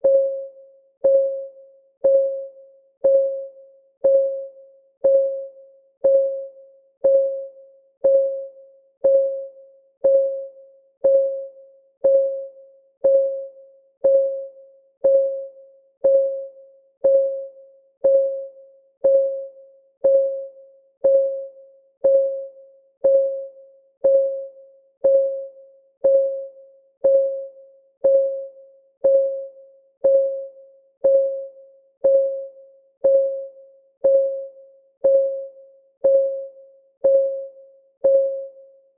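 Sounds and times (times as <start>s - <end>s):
countdown timer ticking: 2.0s - 2.4s, 3.0s - 38.6s.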